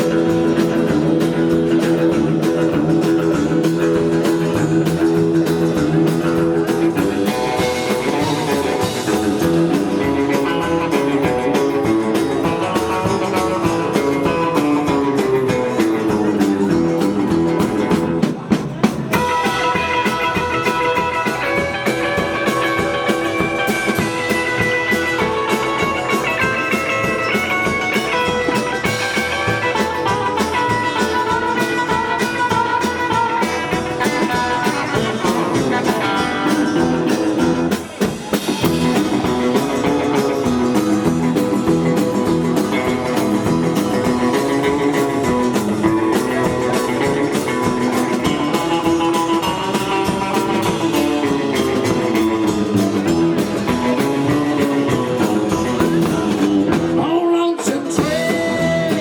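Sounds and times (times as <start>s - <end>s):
drums: 0.0s - 59.0s
electric guitar: 0.0s - 59.0s.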